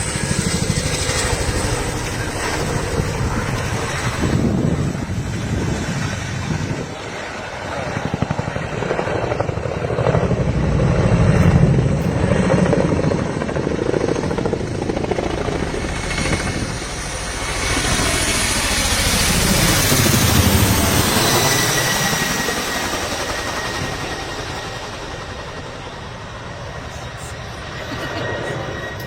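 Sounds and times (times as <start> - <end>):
helicopter rotors beating: 0.0 - 29.0.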